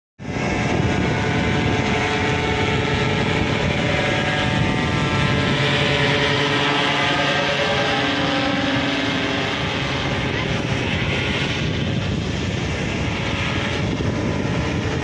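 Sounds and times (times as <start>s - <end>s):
paraglider engine and propeller drone: 0.2s - 15.0s.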